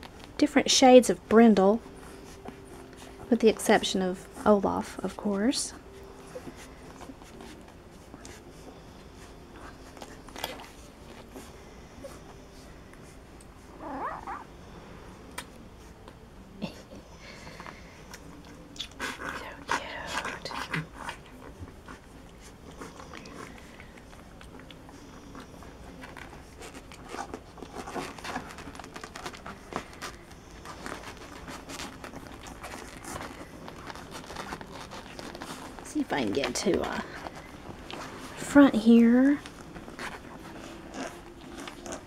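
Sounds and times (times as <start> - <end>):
puppies suckling and smacking: 0.0 - 42.0
squirming and rustling: 0.0 - 42.0.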